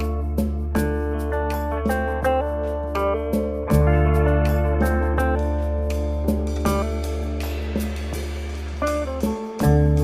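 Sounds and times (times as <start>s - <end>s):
plucked guitar notes: 0.0s - 10.0s
steady bass: 0.0s - 10.0s.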